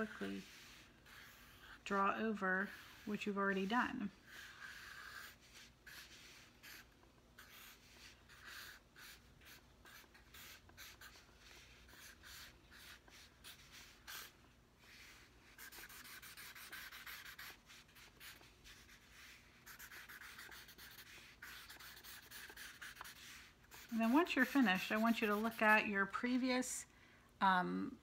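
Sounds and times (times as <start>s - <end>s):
marker scratching on paper: 0.0s - 25.9s.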